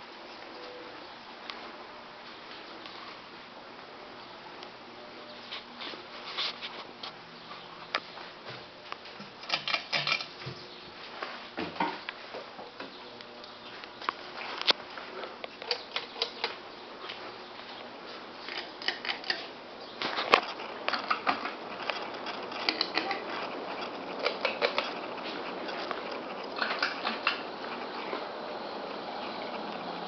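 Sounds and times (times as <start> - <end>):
ceiling fans whirring: 0.0 - 30.0.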